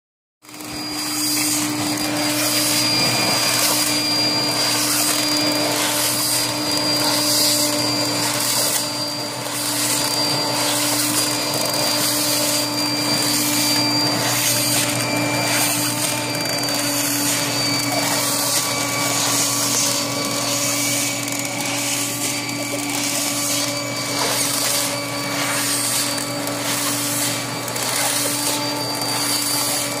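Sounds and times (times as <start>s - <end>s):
packaging machine blower hum: 0.4s - 30.0s.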